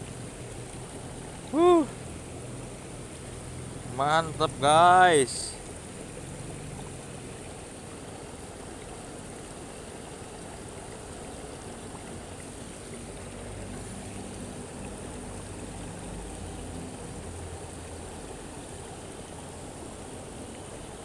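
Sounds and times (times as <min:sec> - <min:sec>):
river current rushing: 0:00.0 - 0:21.0.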